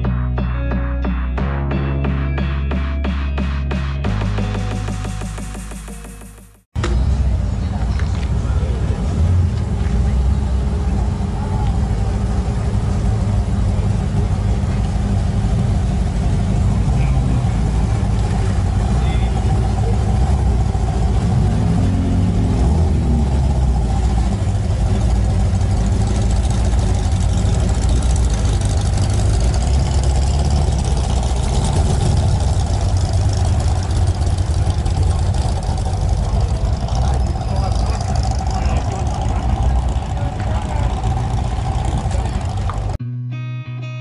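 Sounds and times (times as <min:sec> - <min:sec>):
car engine running and revving: 0:00.0 - 0:43.0.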